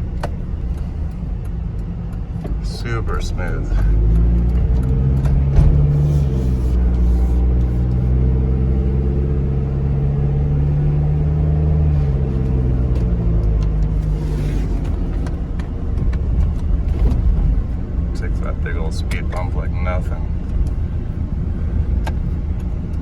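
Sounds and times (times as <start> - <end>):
diesel engine running: 0.0 - 23.0
road noise: 0.0 - 23.0.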